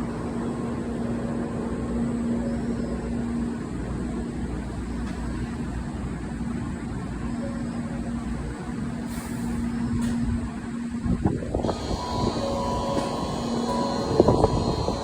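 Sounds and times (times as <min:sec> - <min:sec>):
train rumbling with low hum: 0:00.0 - 0:15.0.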